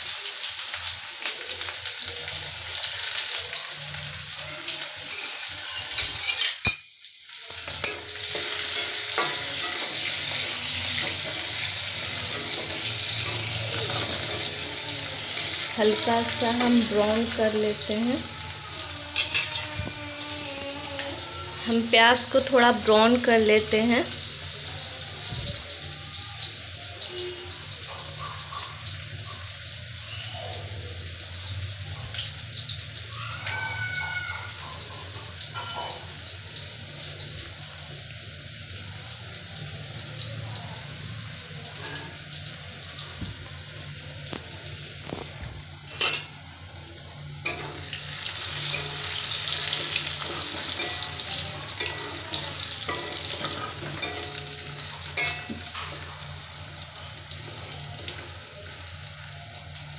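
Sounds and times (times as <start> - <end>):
onions frying in oil: 0.0 - 59.9.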